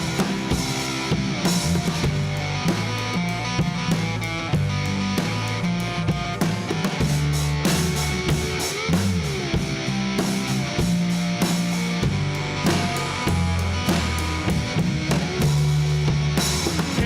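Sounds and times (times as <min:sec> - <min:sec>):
drum kit: 0:00.0 - 0:17.0
low bass notes: 0:00.0 - 0:17.0
slide guitar: 0:00.0 - 0:17.0.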